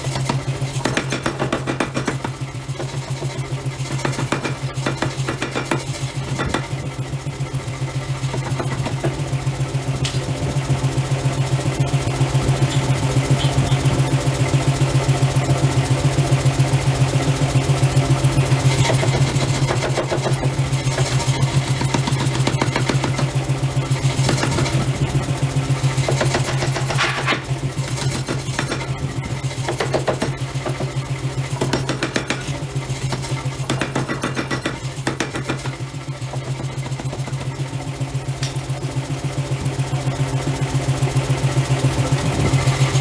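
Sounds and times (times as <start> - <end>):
heavy machinery pulsing hum: 0.0 - 43.0.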